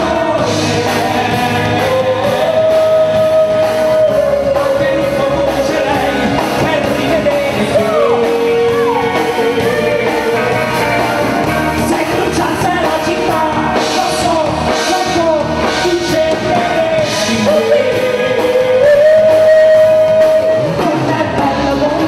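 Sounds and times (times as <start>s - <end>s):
man singing: 0.0s - 22.0s
pop-rock band playing: 0.0s - 22.0s.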